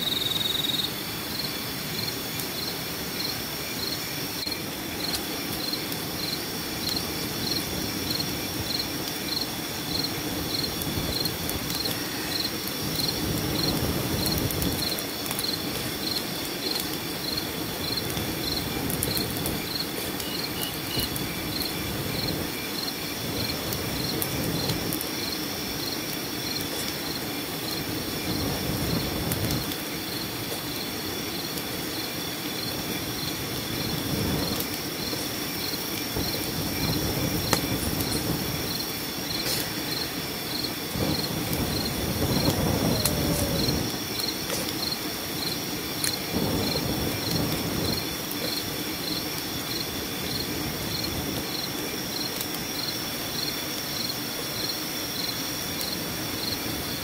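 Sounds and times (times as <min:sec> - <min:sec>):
cricket chirping: 0:00.0 - 0:57.0
high insect drone: 0:00.0 - 0:57.0
small fire crackling: 0:00.0 - 0:57.0.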